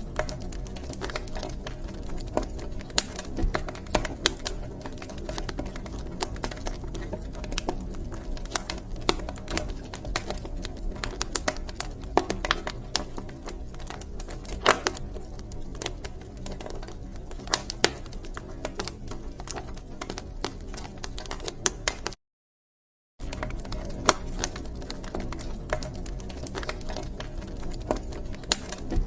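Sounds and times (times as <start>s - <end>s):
fire crackling and popping: 0.0s - 22.2s, 23.2s - 29.0s
low fire rumble: 0.0s - 22.2s, 23.2s - 29.0s.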